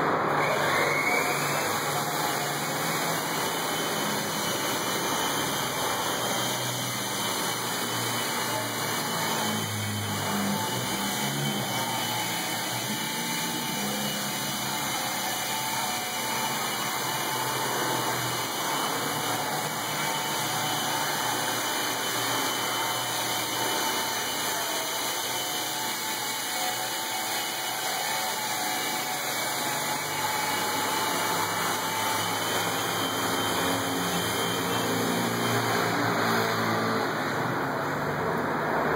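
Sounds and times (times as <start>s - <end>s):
toy helicopter motor whirring: 0.3s - 38.0s.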